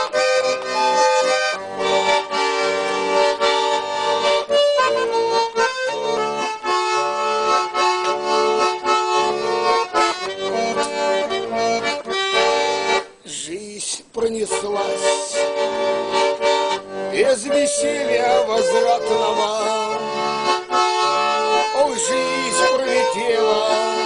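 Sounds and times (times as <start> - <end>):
button accordion melody: 0.0 - 24.0.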